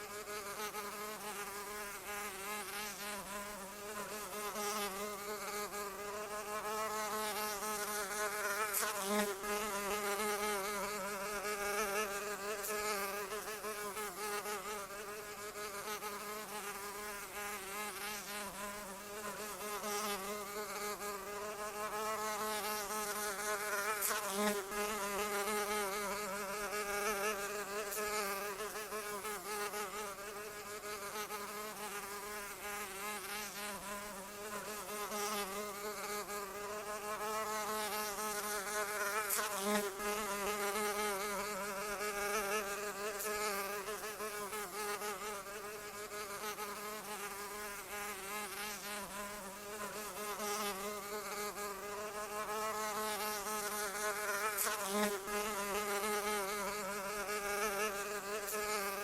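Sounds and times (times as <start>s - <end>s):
insect wings buzzing: 0.0s - 59.0s.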